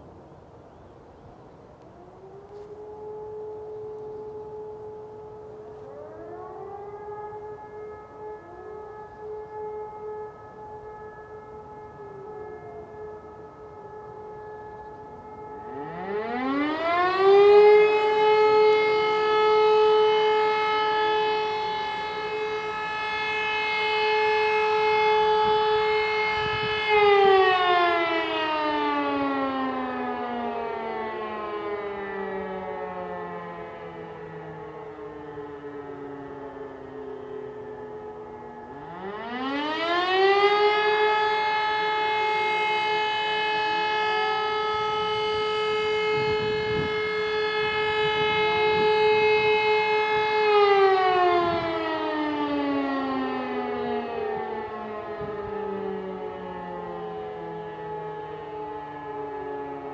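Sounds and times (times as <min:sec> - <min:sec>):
distant sirens: 0:00.0 - 0:59.9
motor siren wailing: 0:00.0 - 0:59.9.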